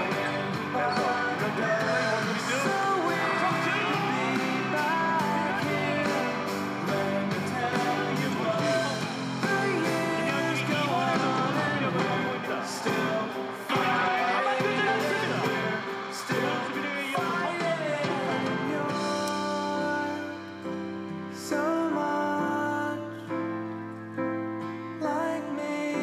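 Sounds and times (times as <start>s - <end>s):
pop-rock song with singing and guitar: 0.0s - 26.0s.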